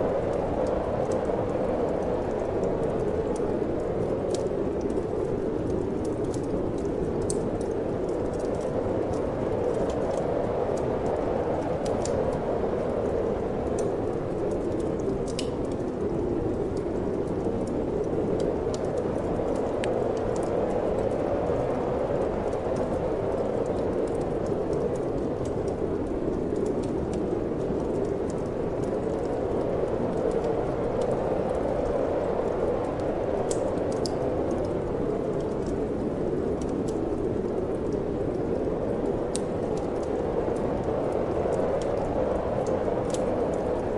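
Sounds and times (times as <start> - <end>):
steady wind: 0.0 - 43.9
wood fire crackling: 0.0 - 43.9.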